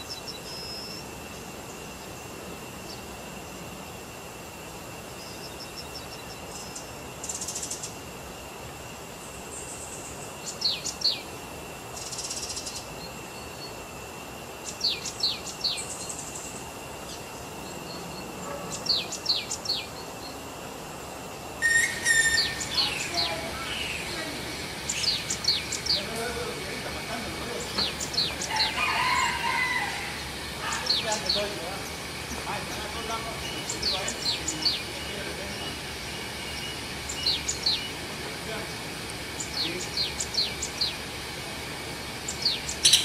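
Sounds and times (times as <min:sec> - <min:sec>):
birds chirping: 0:00.0 - 0:43.0
high insect hum: 0:00.0 - 0:43.0.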